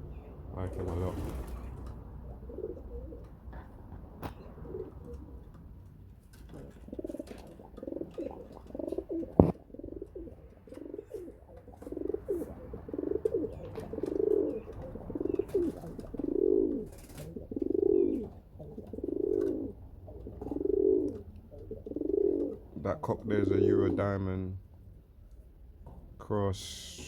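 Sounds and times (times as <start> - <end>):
pigeons cooing: 0.0 - 5.6, 6.4 - 24.3.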